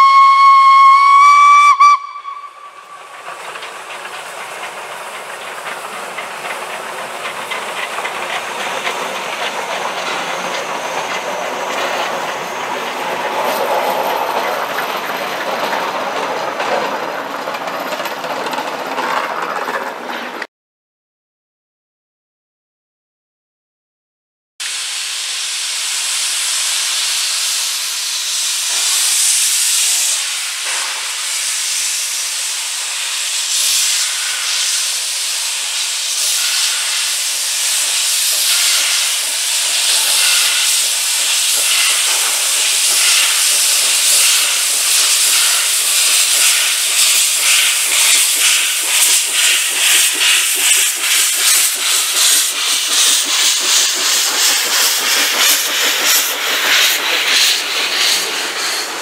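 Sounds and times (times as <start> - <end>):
loud steam hiss: 0.0 - 16.5, 24.6 - 59.0
steam locomotive exhaust chuffs: 0.0 - 19.7, 24.6 - 59.0.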